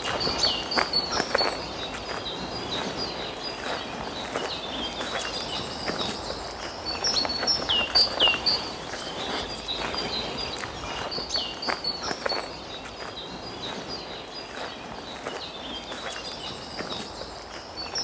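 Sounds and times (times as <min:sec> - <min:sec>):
small birds chirping: 0:00.0 - 0:18.0
soft crackles: 0:00.0 - 0:18.0.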